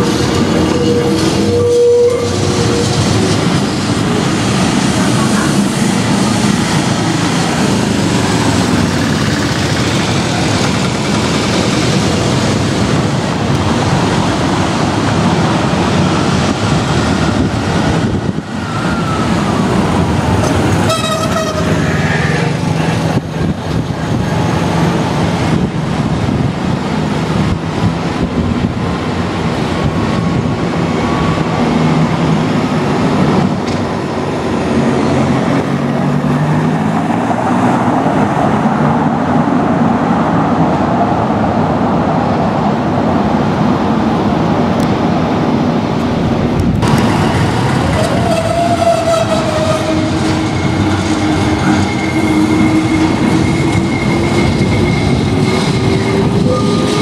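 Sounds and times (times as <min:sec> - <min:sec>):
electric tram passing with whine: 0:00.0 - 0:57.0
vehicle engines running: 0:02.2 - 0:39.2, 0:44.6 - 0:57.0.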